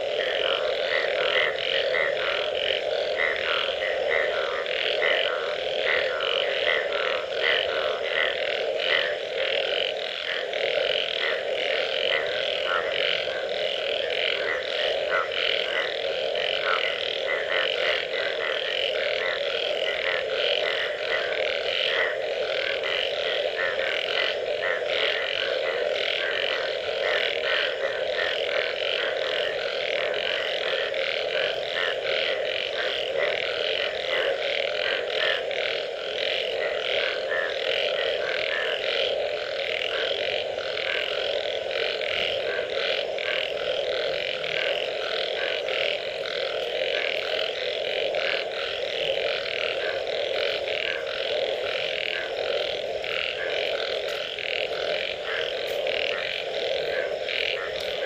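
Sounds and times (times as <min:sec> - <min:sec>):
high-pitched frog calls rattle: 0:00.0 - 0:58.0
low frog croaks: 0:00.0 - 0:58.0.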